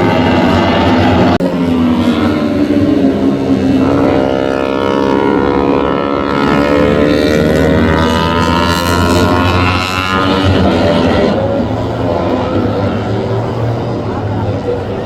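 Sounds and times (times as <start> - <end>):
racing motorcycle engine revving: 0.0 - 15.0.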